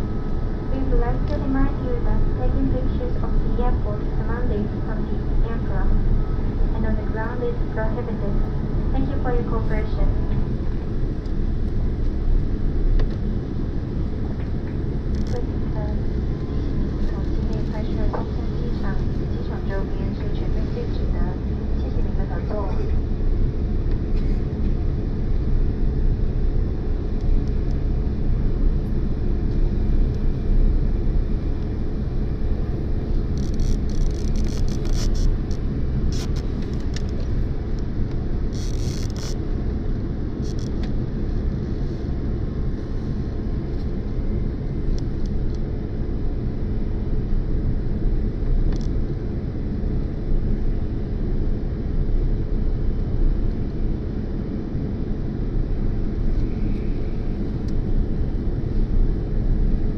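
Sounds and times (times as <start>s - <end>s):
jet cabin engine rumble: 0.0s - 59.9s.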